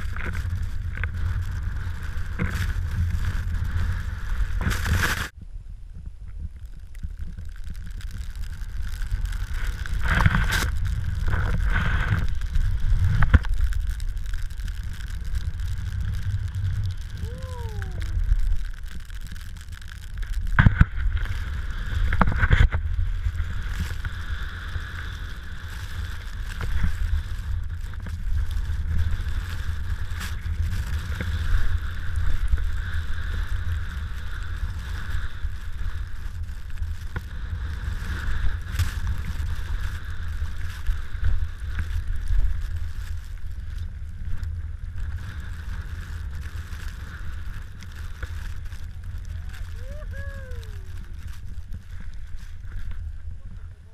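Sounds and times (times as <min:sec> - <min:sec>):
hiss of snow under skis: 0:00.0 - 0:05.3, 0:08.6 - 0:18.5, 0:20.6 - 0:53.6
wind rushing over microphone: 0:00.0 - 0:53.9.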